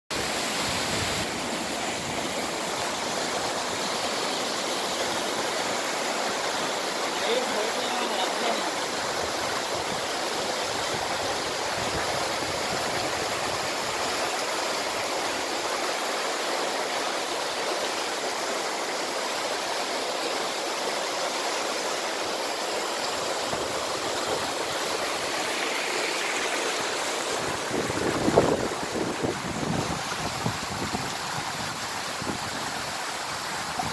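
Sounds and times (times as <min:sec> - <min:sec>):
waterfall splashing into pool: 0:00.1 - 0:33.9.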